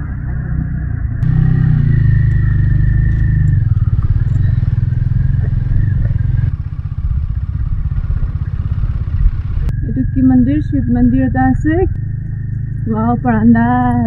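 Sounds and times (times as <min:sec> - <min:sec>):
motorcycle engine running: 0:01.2 - 0:14.0.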